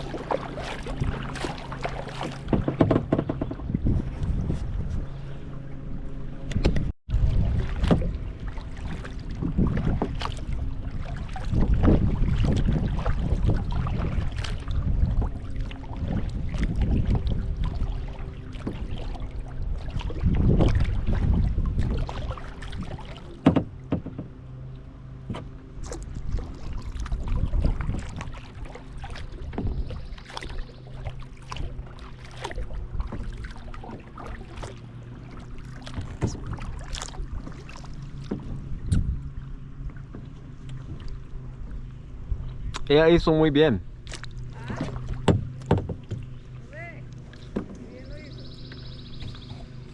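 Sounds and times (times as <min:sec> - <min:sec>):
paddle knocking on hull: 0:00.0 - 0:05.1, 0:07.6 - 0:24.5, 0:25.2 - 0:39.2, 0:44.0 - 0:48.4
paddle splashing in water: 0:00.0 - 0:49.9.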